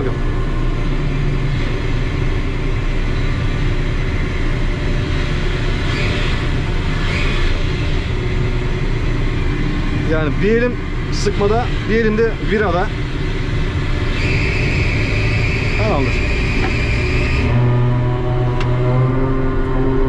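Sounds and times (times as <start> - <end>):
crane machinery rumbling: 0.0 - 20.0.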